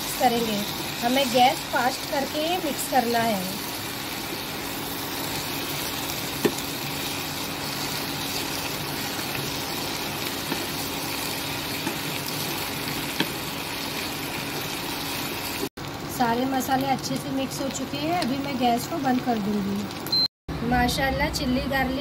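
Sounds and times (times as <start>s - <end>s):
potatoes sizzling in a pan: 0.0s - 20.1s.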